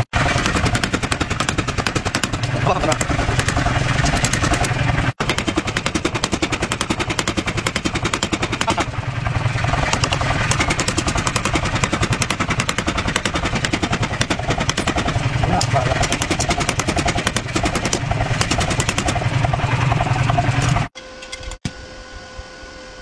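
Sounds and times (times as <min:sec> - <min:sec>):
power hammer striking steel: 0:00.1 - 0:09.0, 0:09.6 - 0:19.3.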